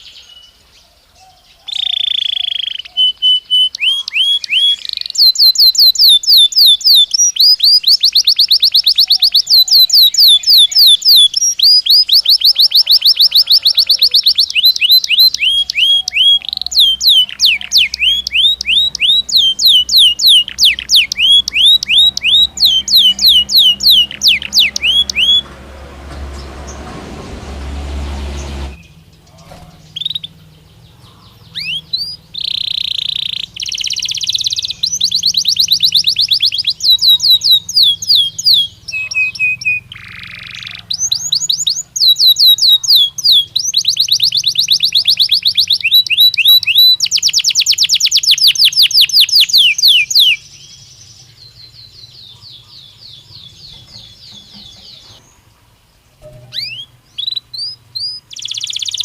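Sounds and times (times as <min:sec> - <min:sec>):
canary singing trills: 0:00.0 - 0:26.9, 0:27.8 - 0:59.0.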